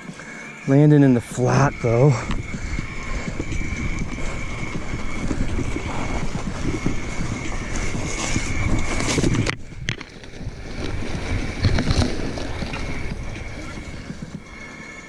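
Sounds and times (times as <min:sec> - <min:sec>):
bike rattling over bumps: 0:00.0 - 0:15.0
bike tyres on dirt trail: 0:00.0 - 0:15.0
wind on microphone: 0:01.1 - 0:15.0.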